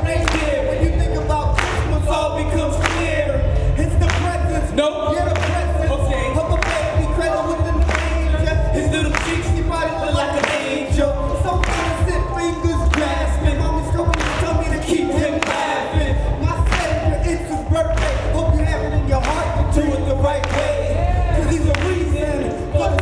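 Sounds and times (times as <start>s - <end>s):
music with singing voices: 0.0s - 23.0s
steady bass beat: 0.0s - 23.0s.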